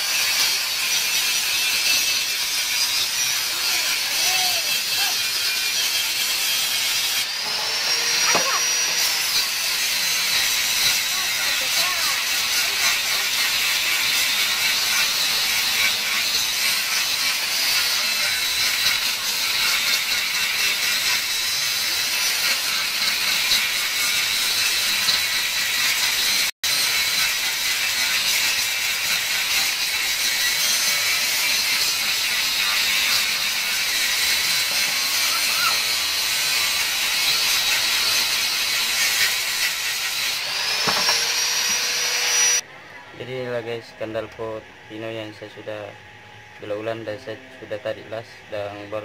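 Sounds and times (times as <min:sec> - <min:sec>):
angle grinder grinding metal: 0:00.0 - 0:42.7.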